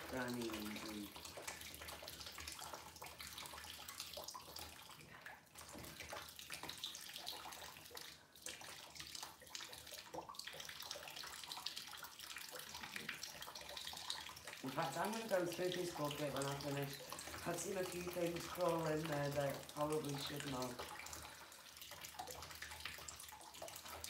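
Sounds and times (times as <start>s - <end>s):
water splashing through siphon hose: 0.0s - 24.0s.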